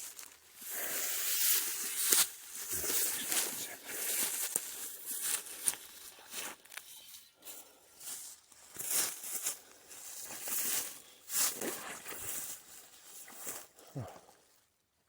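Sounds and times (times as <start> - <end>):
footsteps through dry leaves: 0.0 - 13.8.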